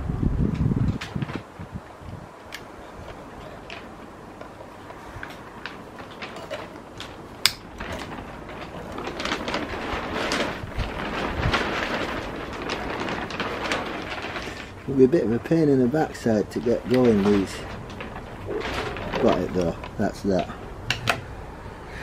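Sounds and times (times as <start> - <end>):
rustling hiss: 0.8 - 22.0.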